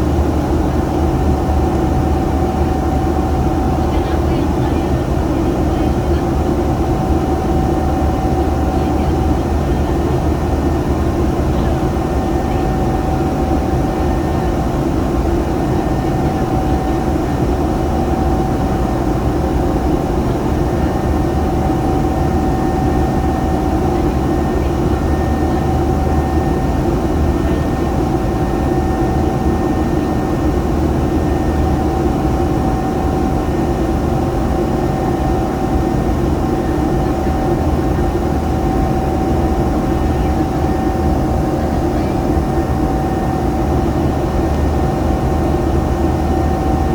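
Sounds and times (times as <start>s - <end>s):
airliner engine whine in cabin: 0.0s - 46.9s.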